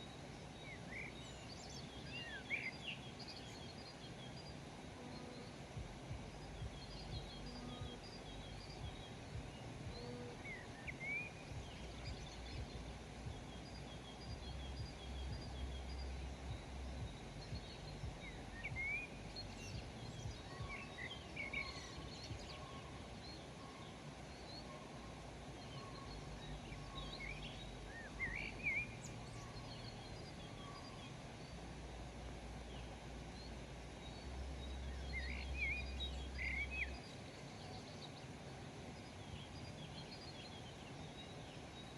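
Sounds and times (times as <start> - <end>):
birds chirping: 0.0 - 41.9
low background rumble: 0.0 - 41.9.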